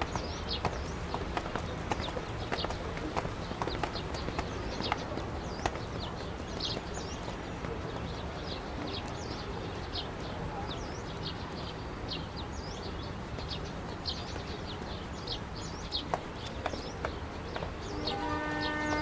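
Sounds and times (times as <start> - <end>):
low outdoor background noise: 0.0 - 19.0
small birds chirping: 0.0 - 19.0.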